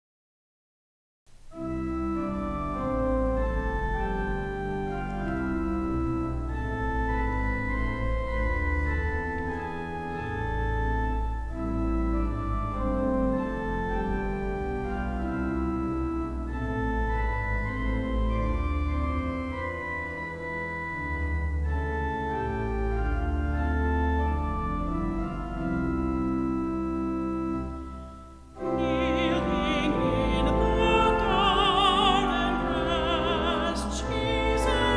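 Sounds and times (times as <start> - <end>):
organ playing sustained chords: 1.4 - 34.9.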